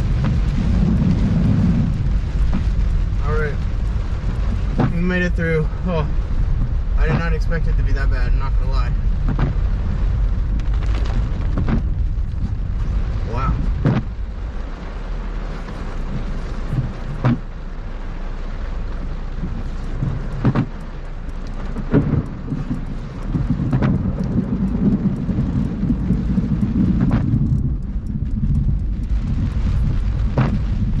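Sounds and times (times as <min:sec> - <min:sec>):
heavy rain: 0:00.0 - 0:31.0
thunder rumbling: 0:00.0 - 0:31.0.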